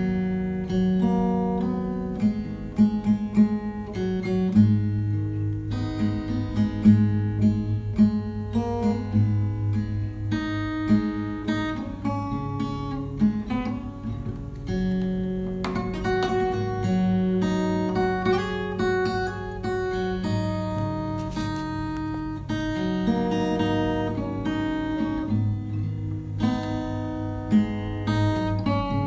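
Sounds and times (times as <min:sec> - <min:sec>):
acoustic guitar music: 0:00.0 - 0:29.0.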